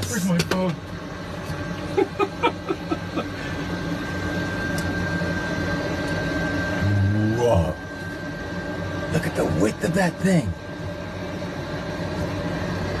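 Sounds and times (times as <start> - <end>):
machinery hum: 0.0 - 13.0
thin high whine: 0.0 - 13.0.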